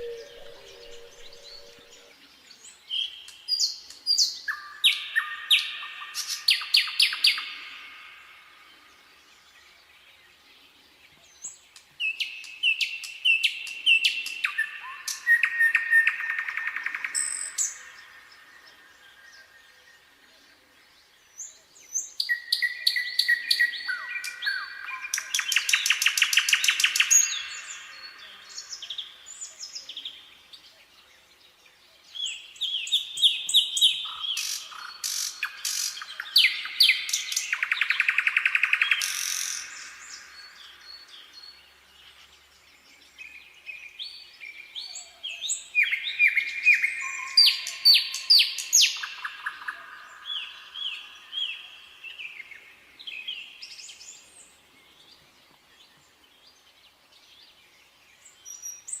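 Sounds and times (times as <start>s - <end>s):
nightingale singing: 0.0s - 10.2s, 11.1s - 20.1s, 21.0s - 59.0s.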